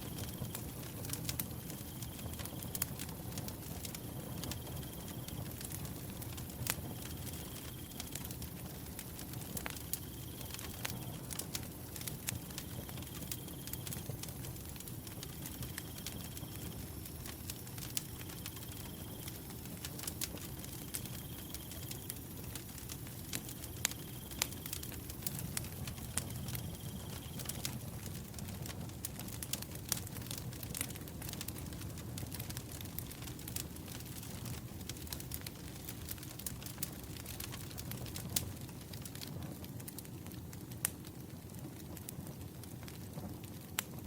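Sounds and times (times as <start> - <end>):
firewood crackling and popping: 0.0 - 44.0
low rumble of flame: 0.0 - 44.0.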